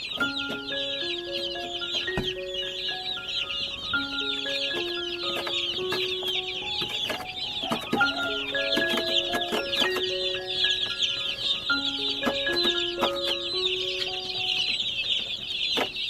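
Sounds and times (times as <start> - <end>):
baby chicks peeping: 0.0 - 16.0
slow melodic background music: 0.0 - 16.0.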